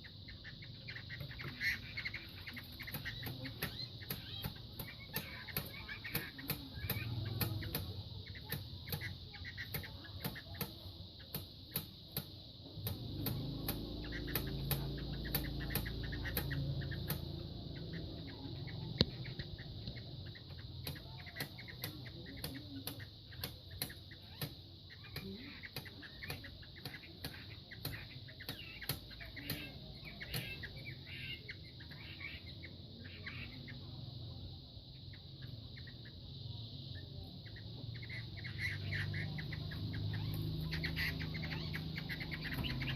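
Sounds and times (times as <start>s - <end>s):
roosters clucking: 0.0s - 33.9s, 37.3s - 42.9s.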